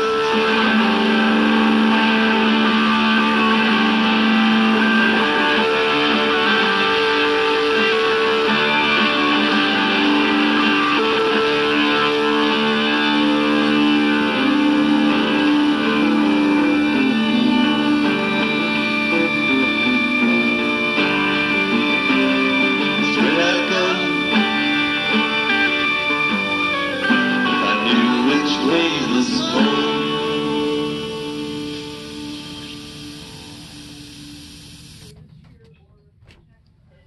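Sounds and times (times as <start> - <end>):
guitar instrumental music: 0.0 - 35.1.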